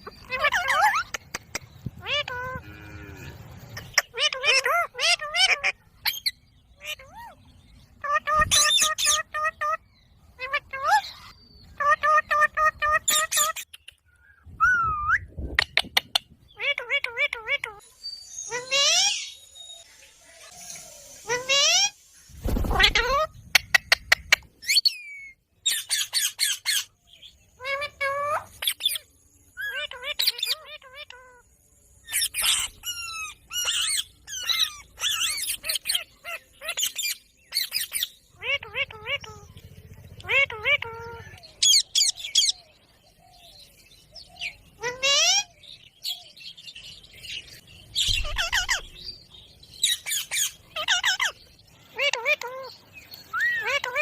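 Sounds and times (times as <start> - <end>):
parakeet squawks and chirps: 0.0 - 2.6, 3.6 - 13.7, 15.6 - 22.0, 22.6 - 31.4, 32.0 - 39.6, 40.2 - 42.6, 44.4 - 46.2, 47.3 - 49.2, 49.8 - 54.0.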